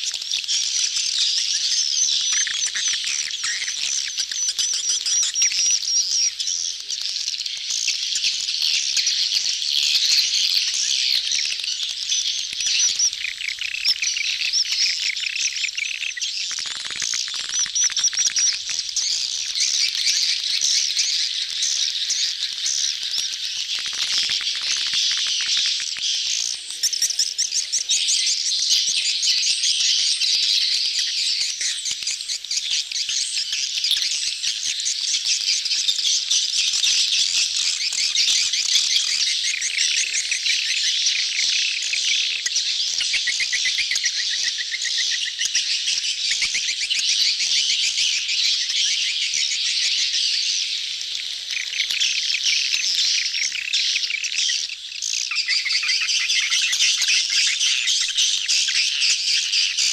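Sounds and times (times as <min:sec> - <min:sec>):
swiftlets chirping and twittering: 0:00.0 - 0:59.9.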